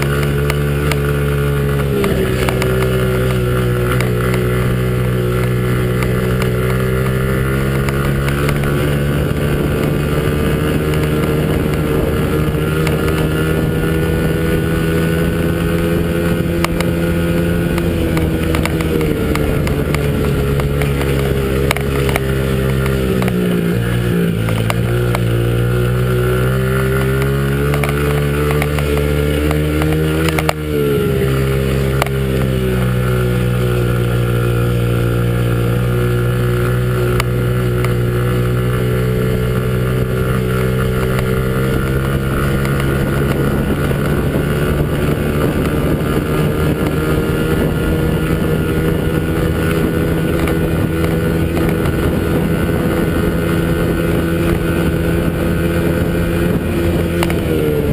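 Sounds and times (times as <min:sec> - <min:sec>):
wind noise on microphone: 0:00.0 - 0:36.4, 0:37.0 - 0:57.9
off-road vehicle engine running: 0:00.0 - 0:57.9.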